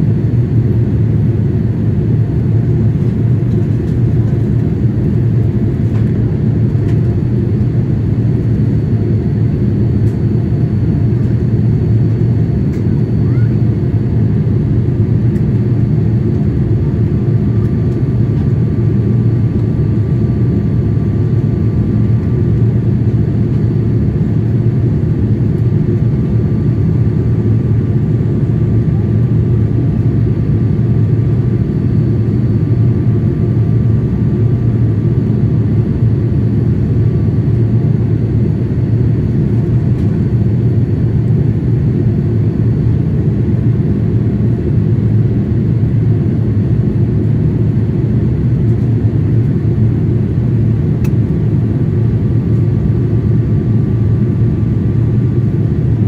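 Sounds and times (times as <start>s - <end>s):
airliner engine drone: 0.0s - 56.0s.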